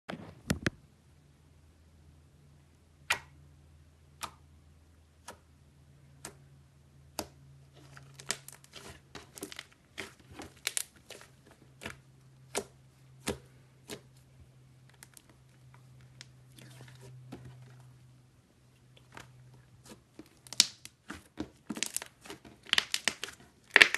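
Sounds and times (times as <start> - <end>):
faint low hum: 0.1 - 23.8.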